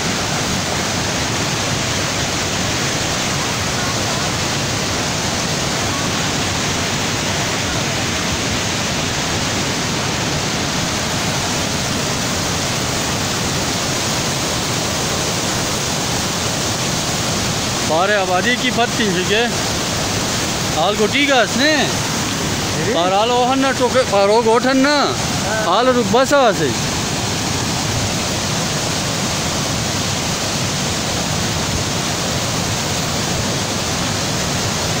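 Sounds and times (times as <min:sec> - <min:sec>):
flood river rushing: 0:00.0 - 0:35.0.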